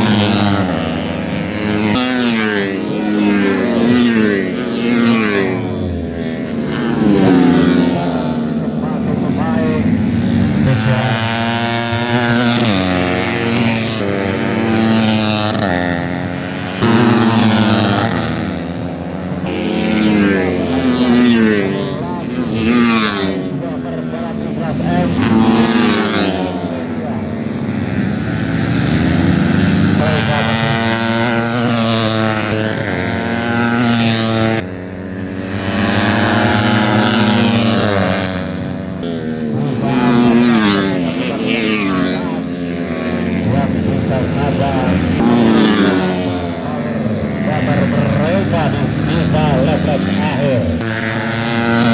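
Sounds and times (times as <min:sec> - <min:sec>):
racing motorcycles at full throttle: 0:00.0 - 0:51.9.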